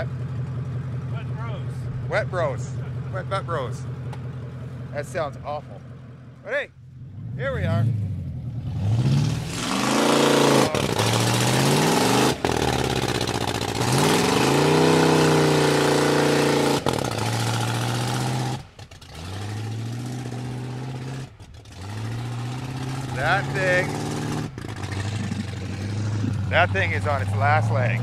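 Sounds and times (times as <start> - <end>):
pickup truck engine revving: 0.0 - 28.0.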